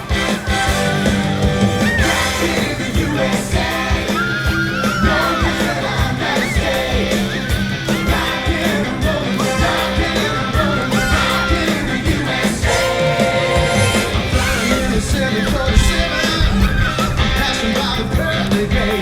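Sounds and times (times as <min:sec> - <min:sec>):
person singing: 0:00.0 - 0:19.0
upbeat stage-show music with band: 0:00.0 - 0:19.0.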